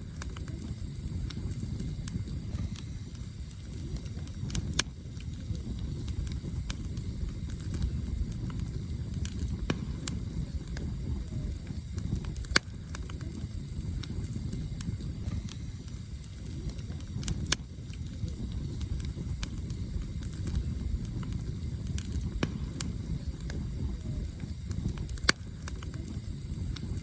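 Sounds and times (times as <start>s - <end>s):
campfire flames roaring: 0.0s - 27.0s
firewood cracking and popping: 0.0s - 27.0s.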